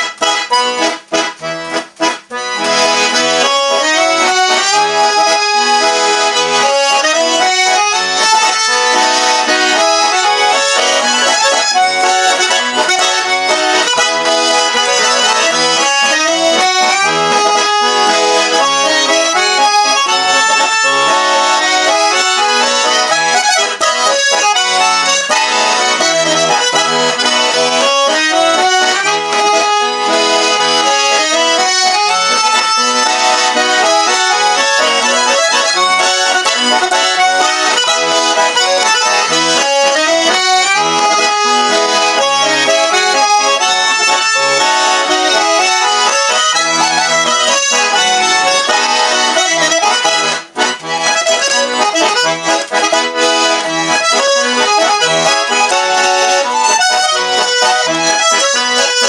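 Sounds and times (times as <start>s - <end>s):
button accordion playing waltz: 0.0s - 59.0s.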